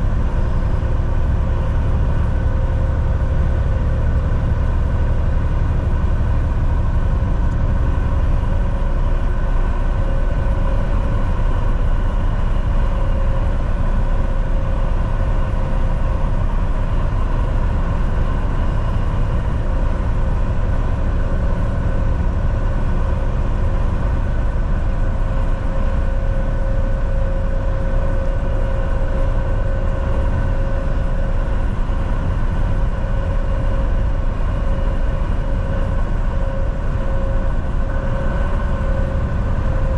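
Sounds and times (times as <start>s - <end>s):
constant whine: 0.0s - 39.9s
diesel engine drone: 0.0s - 39.9s
road noise: 0.0s - 39.9s.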